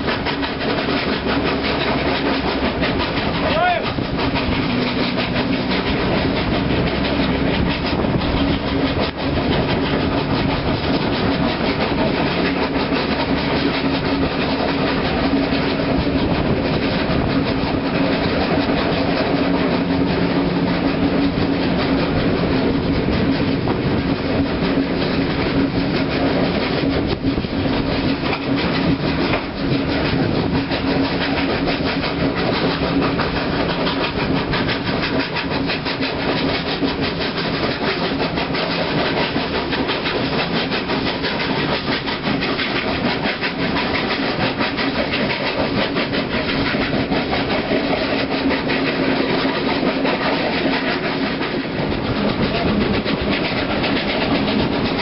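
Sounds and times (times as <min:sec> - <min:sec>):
carriages running on rails: 0:00.0 - 0:55.0
steam locomotive exhaust beats: 0:00.0 - 0:55.0.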